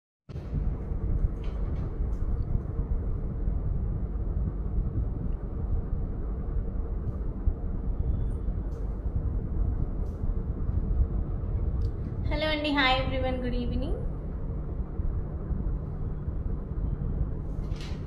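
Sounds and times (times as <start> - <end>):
faint hum: 0.3 - 18.0
low rumbling background noise: 0.3 - 18.0.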